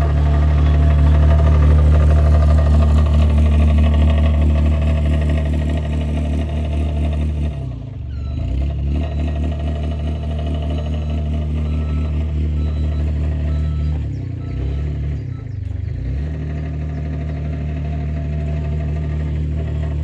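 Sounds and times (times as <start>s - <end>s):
dumper engine running: 0.0s - 20.0s.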